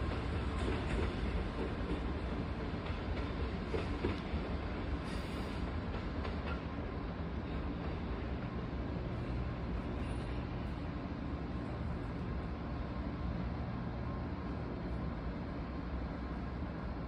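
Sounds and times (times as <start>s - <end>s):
distant train rumble: 0.0s - 17.0s.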